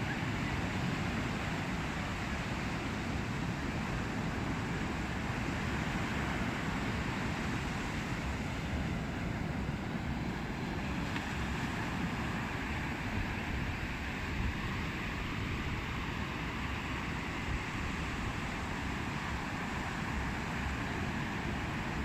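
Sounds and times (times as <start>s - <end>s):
sea rushing: 0.0s - 22.0s.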